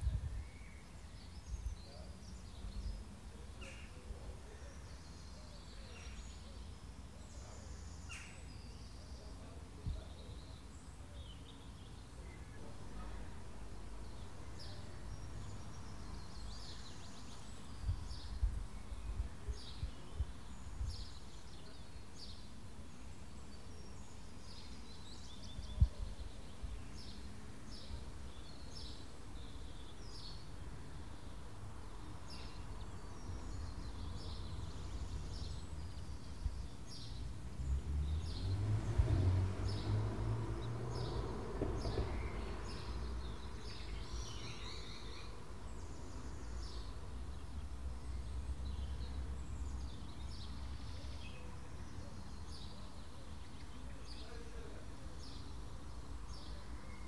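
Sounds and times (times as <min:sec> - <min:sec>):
garden birds chirping: 0:00.0 - 0:57.0.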